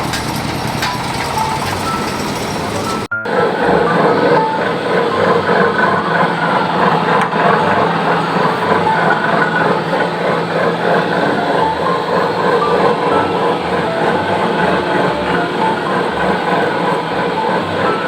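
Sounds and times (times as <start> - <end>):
meat grinding machine running: 0.0 - 18.0.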